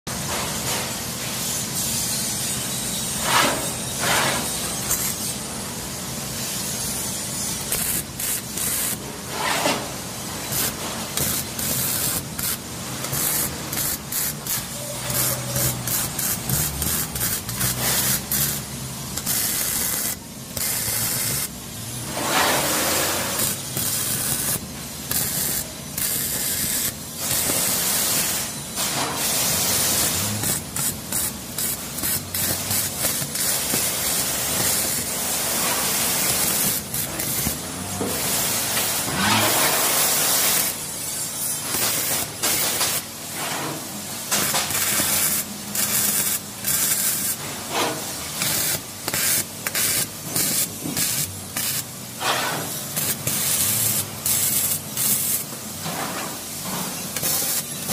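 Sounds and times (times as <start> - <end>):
welding arc crackling and hissing: 0.4 - 57.9.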